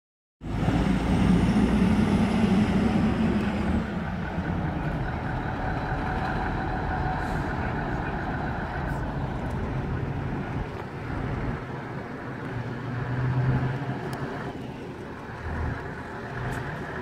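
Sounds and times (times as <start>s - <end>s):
heavy truck engine running: 0.4s - 17.0s.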